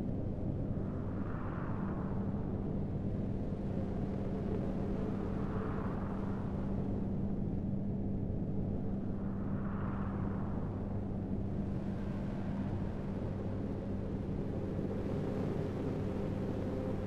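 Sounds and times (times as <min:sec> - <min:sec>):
constant hum: 0:00.0 - 0:17.0.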